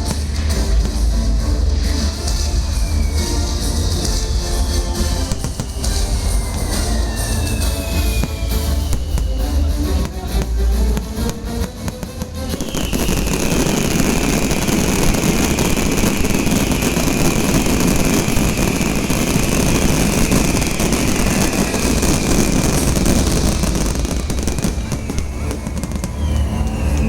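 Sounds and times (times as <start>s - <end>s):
fireworks bursting rapidly: 0.0s - 27.0s
show music: 0.0s - 27.0s.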